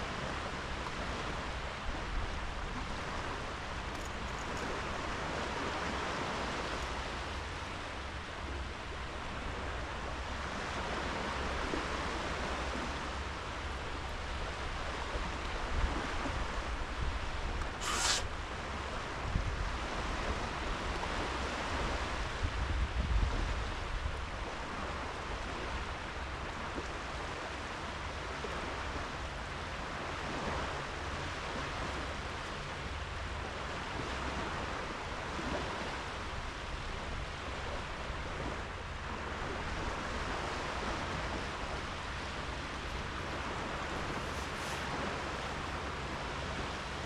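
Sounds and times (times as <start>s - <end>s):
sea waves washing onto beach: 0.0s - 47.0s.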